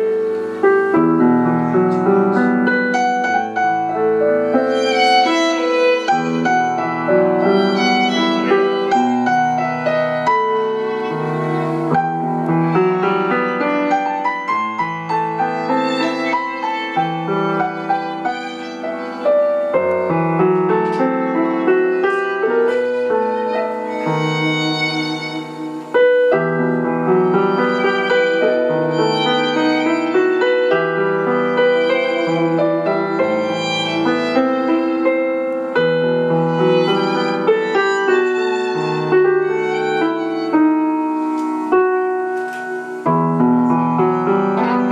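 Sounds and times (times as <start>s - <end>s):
bowed fiddle melody: 0.0s - 44.9s
piano notes: 0.0s - 44.9s.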